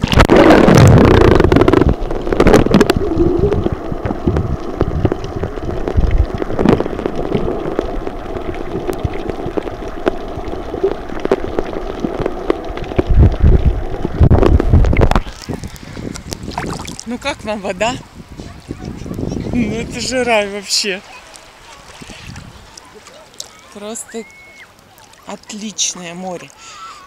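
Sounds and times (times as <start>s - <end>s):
water splashing from swimming: 0.0s - 17.9s, 19.7s - 27.0s.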